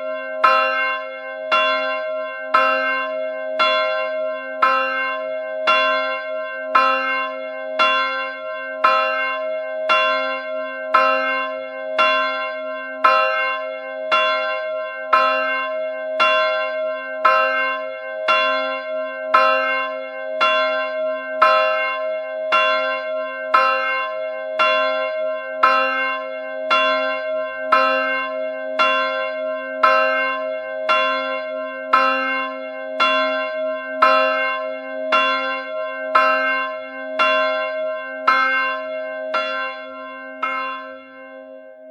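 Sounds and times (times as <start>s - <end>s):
church bell ringing: 0.0s - 41.9s.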